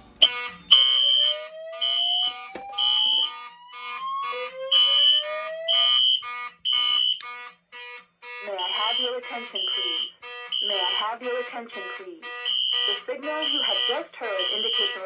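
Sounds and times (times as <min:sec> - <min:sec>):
fire alarm horn pulses: 0:00.0 - 0:15.0.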